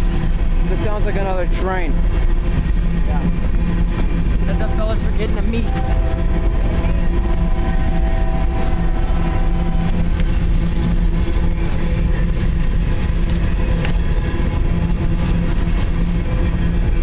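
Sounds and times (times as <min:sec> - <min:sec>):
steady tones: 0:00.0 - 0:17.0
steel wheels rumbling on rail: 0:00.0 - 0:17.0.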